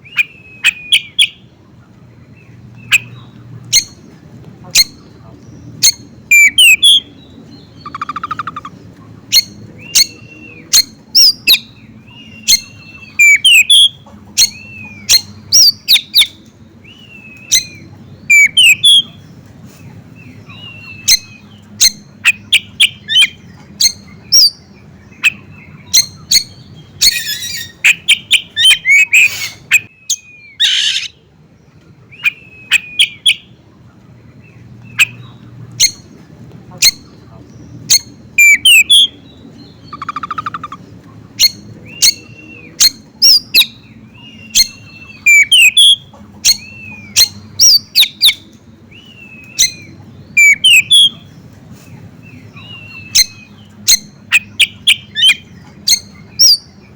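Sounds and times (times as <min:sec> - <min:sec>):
harsh rasping bird calls: 0:00.0 - 0:01.6, 0:04.7 - 0:19.3, 0:19.9 - 0:31.3, 0:34.5 - 0:56.9
songbirds chirping and whistling: 0:00.0 - 0:56.9.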